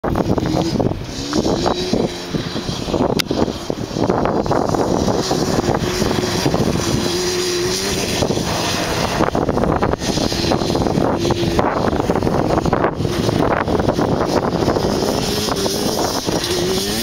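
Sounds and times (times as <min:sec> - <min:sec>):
two-stroke quad engine running: 0:00.0 - 0:17.0.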